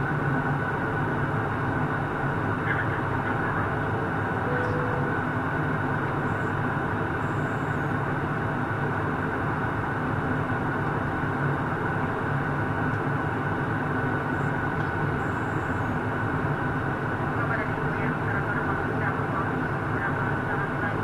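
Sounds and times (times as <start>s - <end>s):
airliner cabin engine noise: 0.0s - 21.0s.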